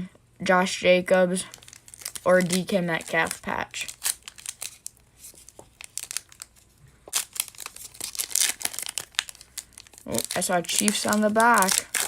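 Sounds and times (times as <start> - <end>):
foil wrapper crinkling and tearing: 1.5 - 12.0.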